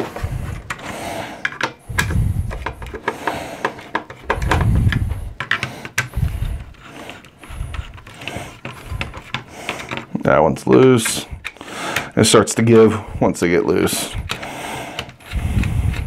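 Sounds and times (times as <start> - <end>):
heavy breathing on microphone: 0.0 - 10.2, 10.8 - 16.0
screwdriver clicking and scraping: 0.0 - 13.0, 13.8 - 16.0.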